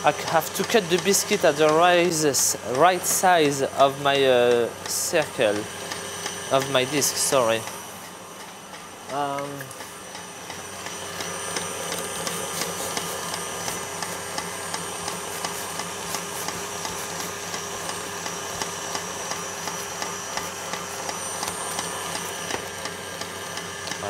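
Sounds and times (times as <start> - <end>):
refrigeration hum: 0.0 - 24.0.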